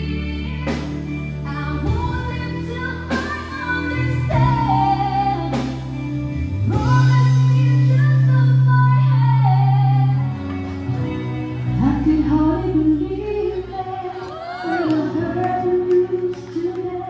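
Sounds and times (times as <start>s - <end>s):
woman singing a slow ballad: 0.0s - 10.8s, 11.6s - 17.0s
live band playing: 0.0s - 17.0s
low bass notes: 0.0s - 17.0s.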